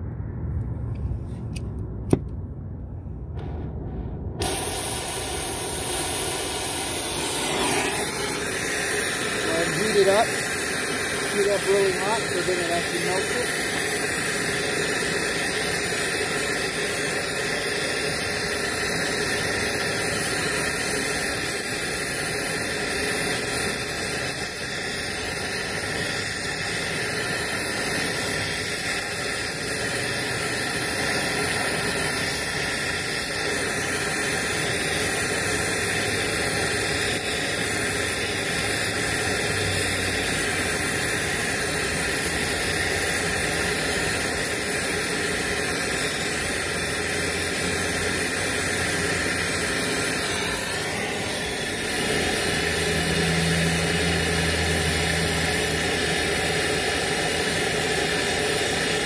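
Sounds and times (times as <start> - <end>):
torch flame hissing: 3.2 - 59.0.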